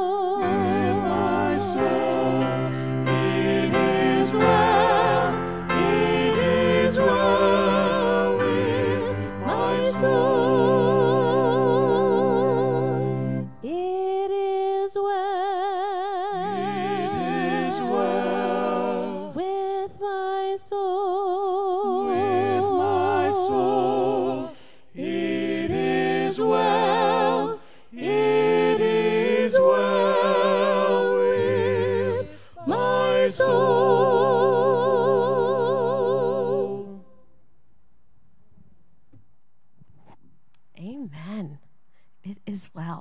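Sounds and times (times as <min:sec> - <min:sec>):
people singing worship song: 0:00.0 - 0:15.0, 0:15.6 - 0:37.2.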